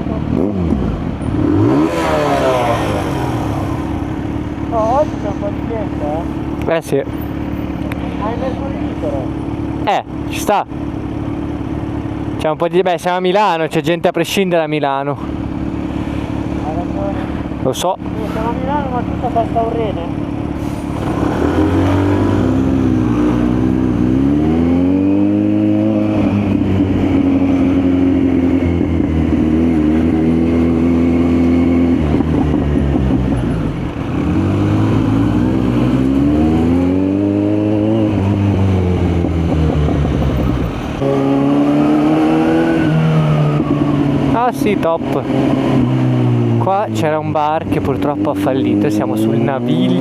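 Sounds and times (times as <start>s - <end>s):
motorcycle engine accelerating: 0.0s - 13.6s, 14.9s - 50.0s.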